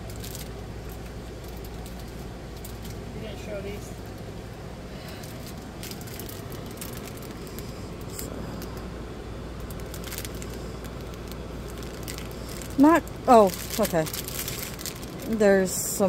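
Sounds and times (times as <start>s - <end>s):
plastic bag crinkling: 0.0s - 3.0s, 5.0s - 8.9s, 9.6s - 16.0s
low steady background hum: 0.0s - 16.0s.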